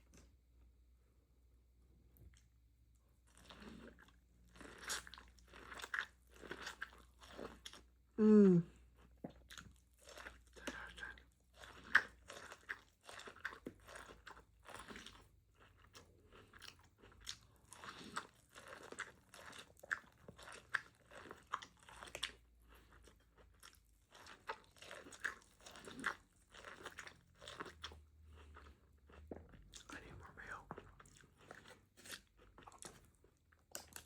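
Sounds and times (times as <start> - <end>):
chewing and crunching corn: 2.2 - 8.1, 8.7 - 34.0.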